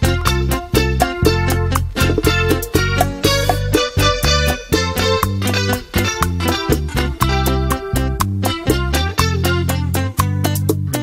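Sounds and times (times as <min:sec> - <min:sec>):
bass notes: 0:00.0 - 0:11.0
plucked string melody: 0:00.0 - 0:11.0
steady beat: 0:00.0 - 0:11.0.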